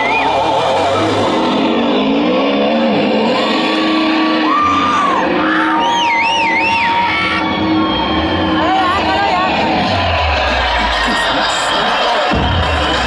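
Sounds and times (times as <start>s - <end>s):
audience shouting and whooping: 0.0s - 1.8s, 3.2s - 13.0s
loud stage music: 0.0s - 13.0s.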